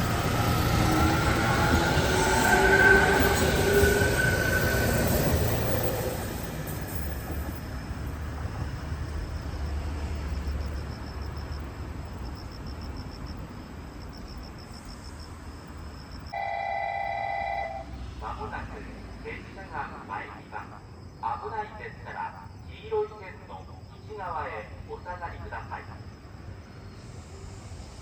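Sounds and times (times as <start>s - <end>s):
electric train with whining tone: 0.0s - 20.8s, 24.0s - 28.0s.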